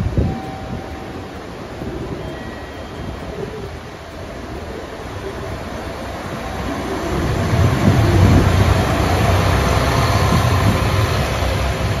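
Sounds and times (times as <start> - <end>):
diesel railcar passing: 0.0 - 12.0.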